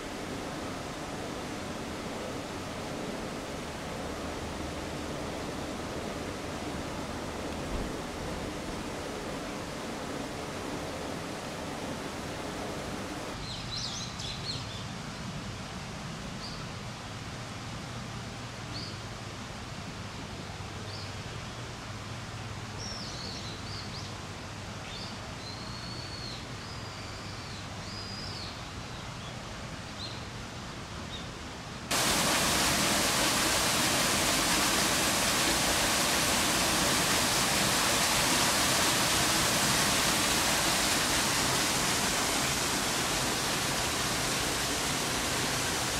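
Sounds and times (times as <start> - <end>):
rush of running water: 0.0 - 25.4, 31.4 - 45.9.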